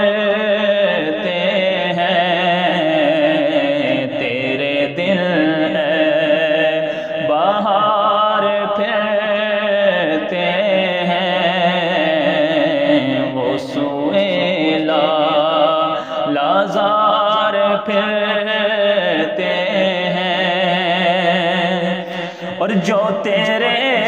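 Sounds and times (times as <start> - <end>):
man singing devotional poem: 0.0 - 24.0.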